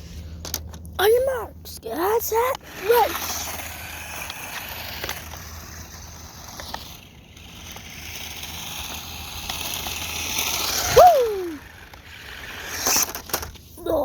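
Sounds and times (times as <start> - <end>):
rc car motor whirring: 0.0 - 14.0.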